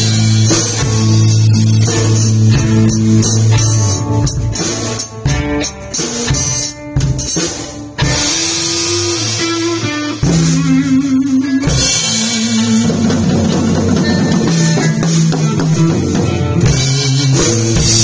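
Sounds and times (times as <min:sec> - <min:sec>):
drum kit: 0:00.0 - 0:18.0
electric guitar chords: 0:00.0 - 0:18.0.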